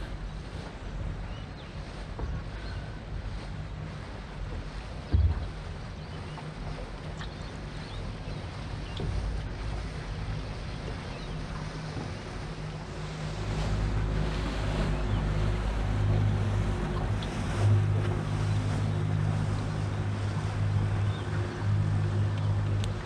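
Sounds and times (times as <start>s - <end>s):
boat motor humming: 0.0s - 23.0s
water noise: 0.0s - 23.0s
wind on microphone: 0.0s - 23.0s.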